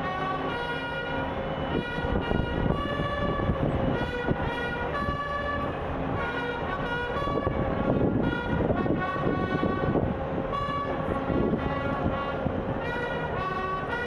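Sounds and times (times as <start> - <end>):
horn-like tune: 0.0 - 14.0.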